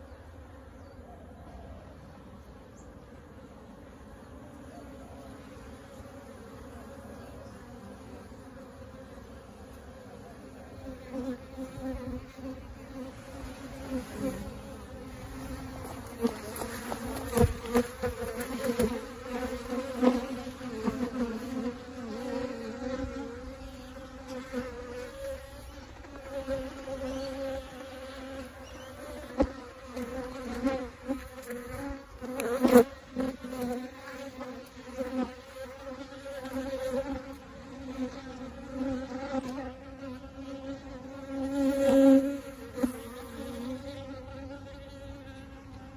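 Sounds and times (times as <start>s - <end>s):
bees buzzing: 2.2s - 45.9s.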